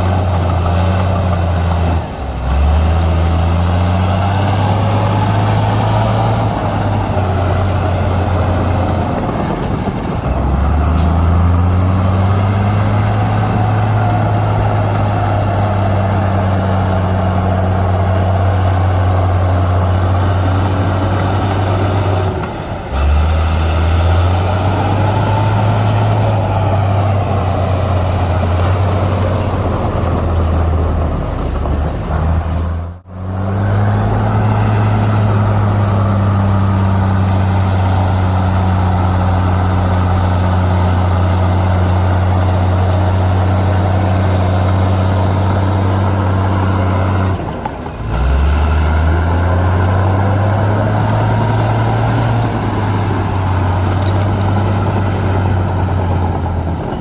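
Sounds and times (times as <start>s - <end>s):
earthmoving machine diesel engine: 0.0s - 57.0s.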